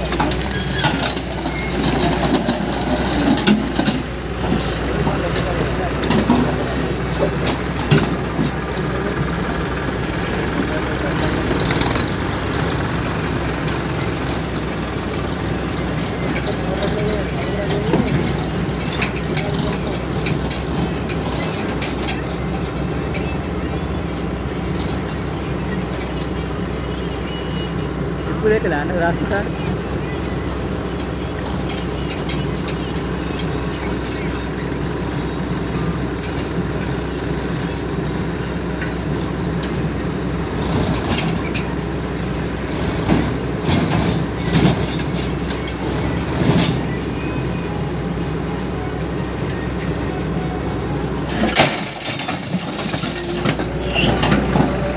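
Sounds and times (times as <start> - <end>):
metal trailer clanking and rattling: 0.0 - 26.9, 27.9 - 54.9
excavator diesel engine: 0.0 - 54.9
tractor engine pulling trolley: 0.0 - 54.9.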